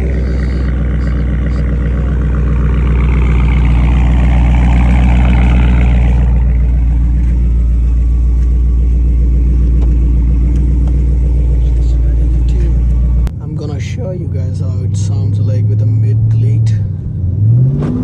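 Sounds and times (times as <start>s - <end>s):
car exhaust deep rumble: 0.0s - 18.0s.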